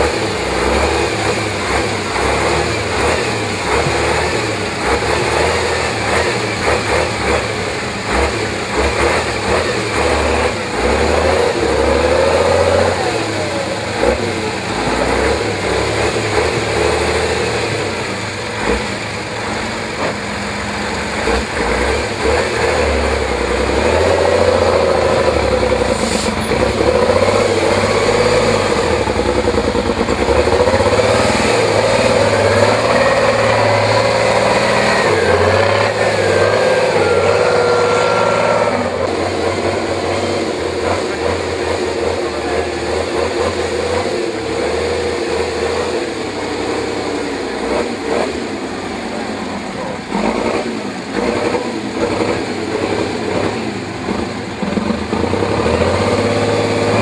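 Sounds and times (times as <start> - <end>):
truck engine revving under load: 0.0 - 57.0.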